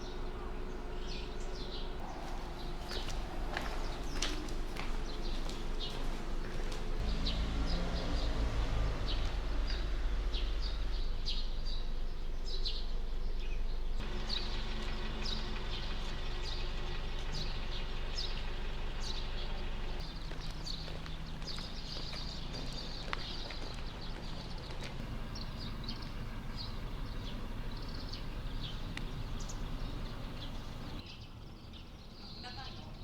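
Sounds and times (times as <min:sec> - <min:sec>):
low mechanical hum: 0:00.0 - 0:31.0
small birds chirping: 0:00.0 - 0:33.0.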